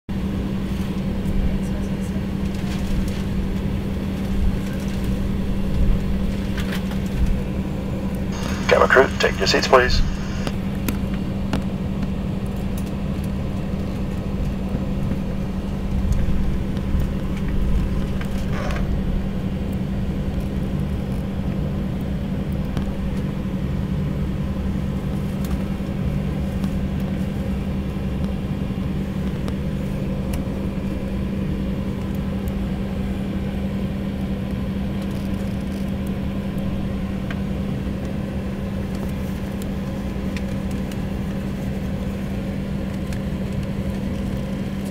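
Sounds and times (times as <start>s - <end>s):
jet airliner cabin engine rumble: 0.1s - 44.9s.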